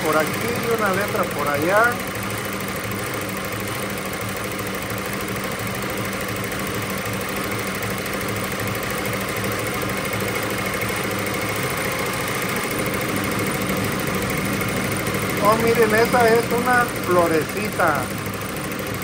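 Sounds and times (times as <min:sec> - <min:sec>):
embroidery machine clattering: 0:00.0 - 0:19.0.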